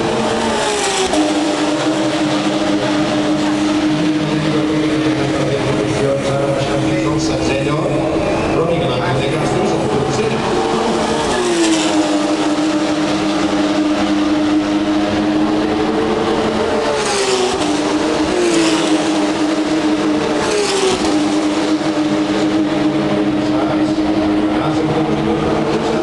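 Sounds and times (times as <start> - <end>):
race car engines at high revs: 0.0 - 26.0
race cars passing by: 0.0 - 26.0.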